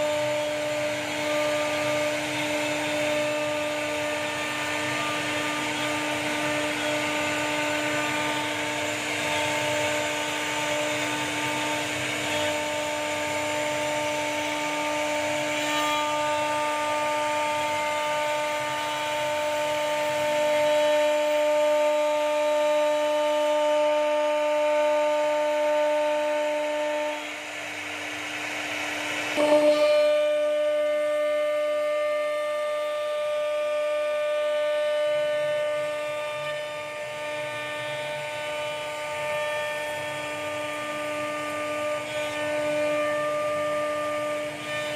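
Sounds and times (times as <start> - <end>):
bit rasping through wood: 0.0 - 28.0, 28.7 - 44.9
router spindle whining: 0.0 - 44.9.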